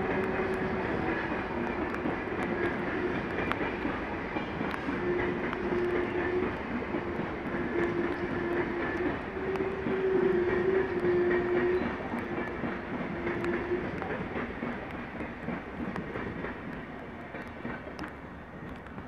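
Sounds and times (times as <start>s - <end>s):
train rolling through station: 0.0s - 19.0s.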